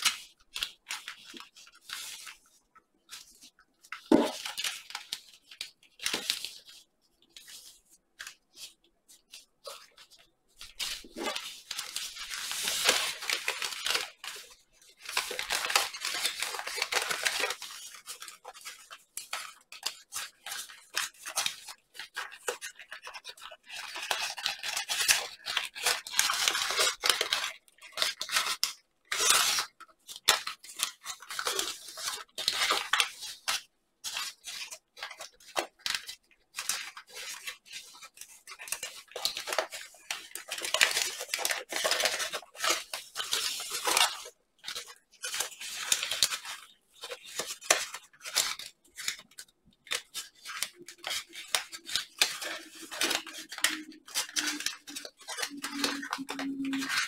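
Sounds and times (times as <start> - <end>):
paper crinkling and rustling: 0.0 - 57.0.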